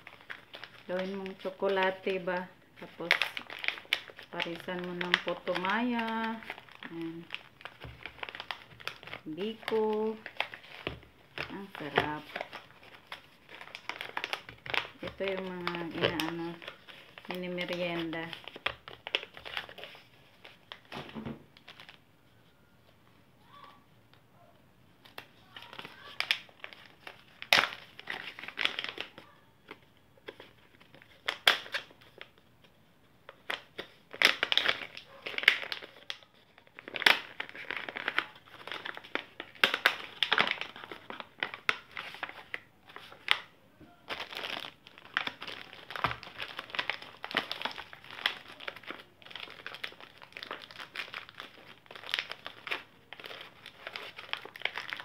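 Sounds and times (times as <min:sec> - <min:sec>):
paper bags crinkling: 0:00.0 - 0:22.0, 0:25.0 - 0:32.4, 0:33.3 - 0:55.0.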